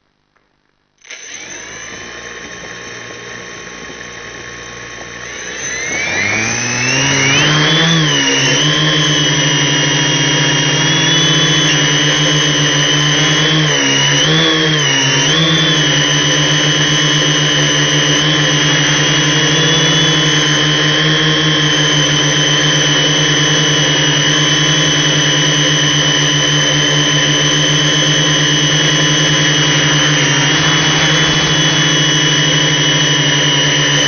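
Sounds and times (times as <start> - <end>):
drone motors whining: 1.0 - 34.0.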